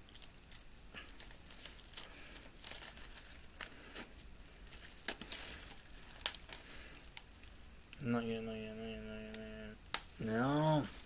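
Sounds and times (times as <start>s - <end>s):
plastic shrink-wrap crinkling: 0.0s - 8.0s, 9.2s - 11.0s.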